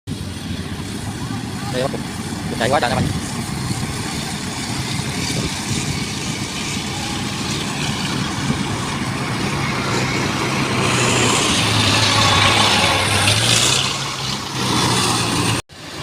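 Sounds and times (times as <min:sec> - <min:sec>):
combine harvester running: 0:00.1 - 0:16.0.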